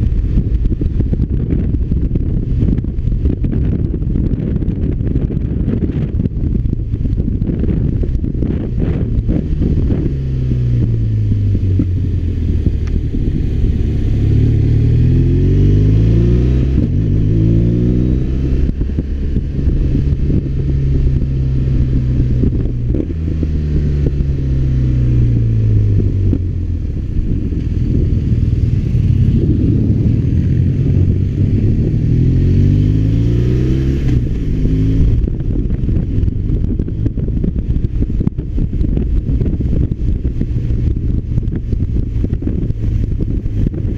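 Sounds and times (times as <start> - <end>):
motorcycle engine: 0.0 - 43.9
wind rushing over microphone: 0.0 - 43.9.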